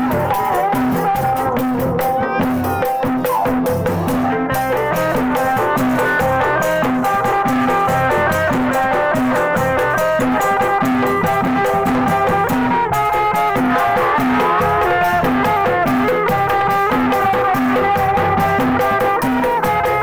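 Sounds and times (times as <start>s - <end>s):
bass drum beat: 0.0s - 20.0s
hand drums: 0.0s - 20.0s
plucked electric guitar melody: 0.0s - 20.0s.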